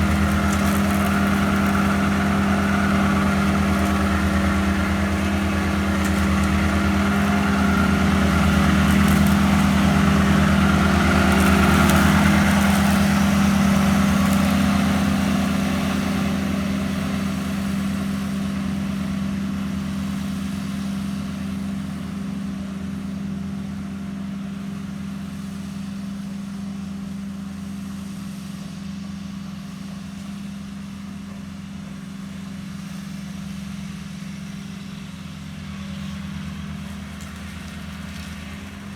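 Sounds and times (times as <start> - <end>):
ride-on mower engine mowing: 0.0 - 38.9.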